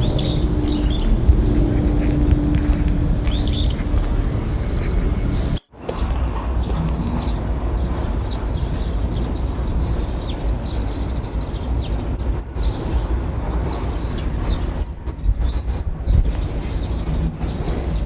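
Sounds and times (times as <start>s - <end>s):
small birds chirping: 0.0s - 18.0s
strong wind rumbling: 0.0s - 18.0s.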